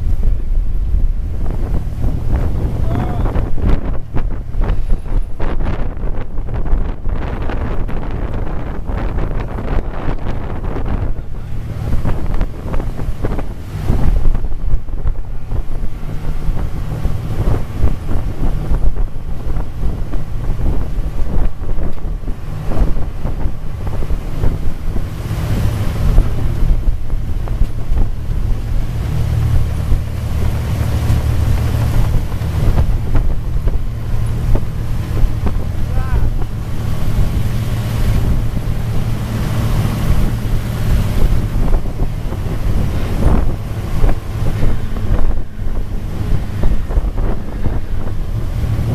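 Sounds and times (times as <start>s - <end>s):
boat engine droning: 0.0s - 48.9s
wind buffeting microphone: 0.0s - 48.9s.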